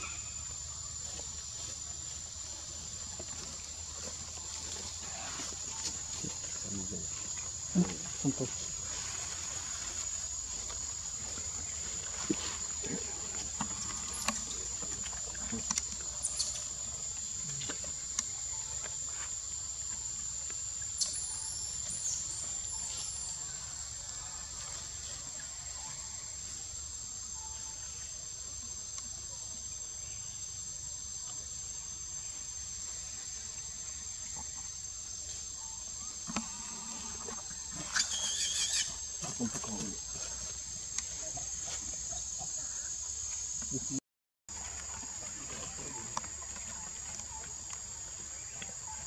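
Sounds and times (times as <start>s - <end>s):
insects shrilling: 0.0s - 25.3s, 26.8s - 44.0s.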